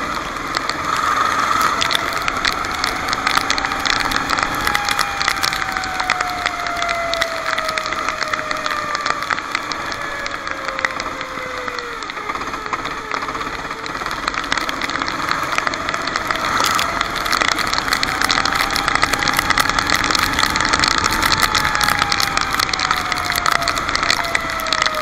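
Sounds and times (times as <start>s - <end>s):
kart engine revving: 0.0s - 25.0s
rattle of clicks: 0.0s - 25.0s.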